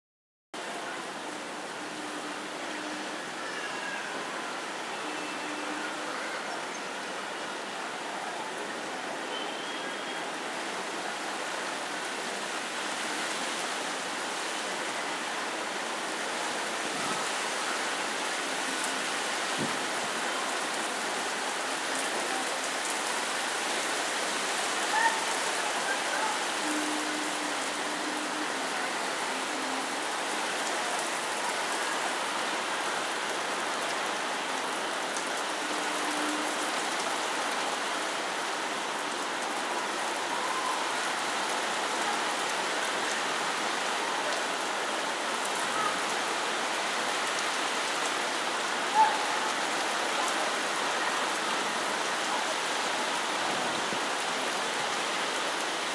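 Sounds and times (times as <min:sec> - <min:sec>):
steady rain falling: 0:00.6 - 0:55.9.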